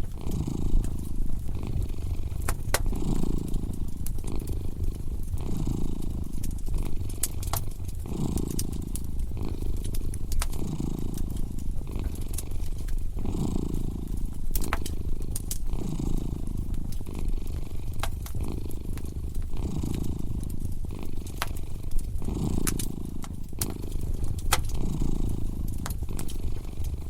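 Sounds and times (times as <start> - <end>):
cat purring: 0.0 - 27.0
wood fire crackling: 0.0 - 27.0.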